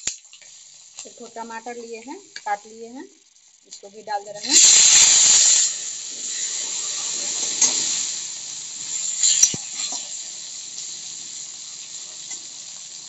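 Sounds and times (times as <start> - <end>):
tomato sizzling in hot oil: 0.0 - 13.0.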